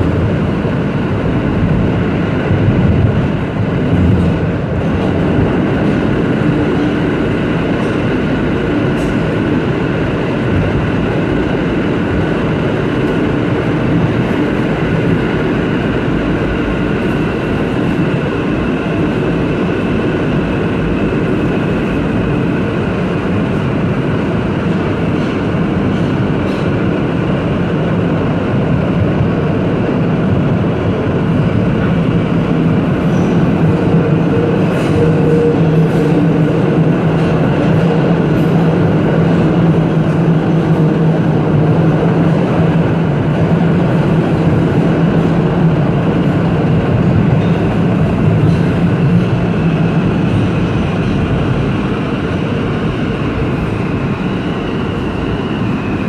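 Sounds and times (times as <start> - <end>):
low train hum: 0.0 - 56.0
subway wheels on rails: 0.0 - 56.0.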